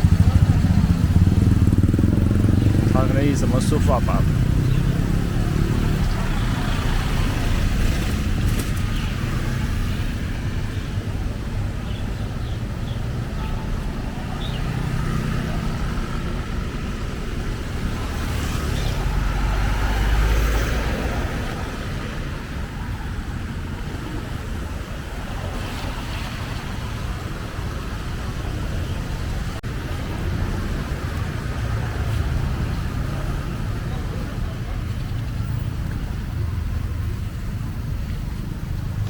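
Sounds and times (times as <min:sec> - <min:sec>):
vehicle passing close: 0:00.0 - 0:11.7, 0:13.0 - 0:39.0
street traffic: 0:00.0 - 0:39.0.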